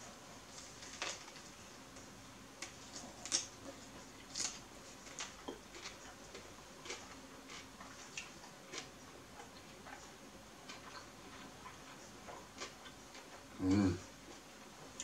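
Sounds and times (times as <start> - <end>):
person chewing sandwich: 2.6 - 15.0.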